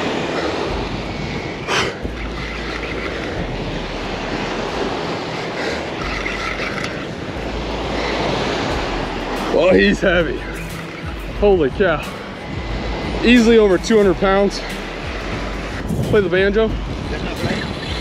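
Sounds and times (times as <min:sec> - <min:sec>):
small waves on sandy beach: 0:00.0 - 0:18.0
wind buffeting microphone: 0:00.0 - 0:18.0.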